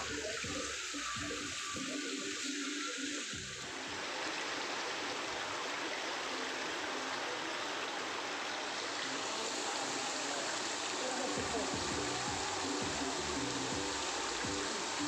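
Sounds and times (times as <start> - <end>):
water jets splashing into pond: 0.0 - 15.0.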